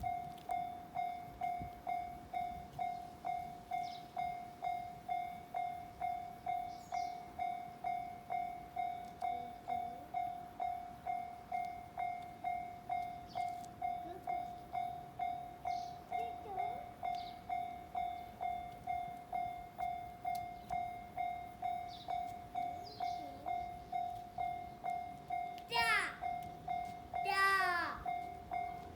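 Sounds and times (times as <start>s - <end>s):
level-crossing warning bell ringing: 0.0s - 28.9s.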